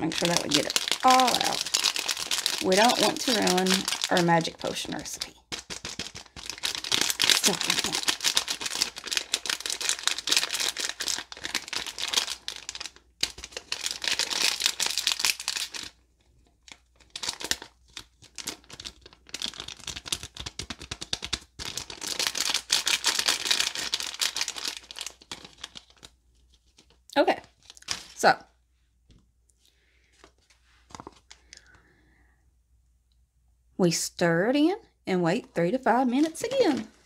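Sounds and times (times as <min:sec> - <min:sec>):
plastic sachet crinkling: 0:00.0 - 0:28.3, 0:30.1 - 0:31.8, 0:36.0 - 0:37.0.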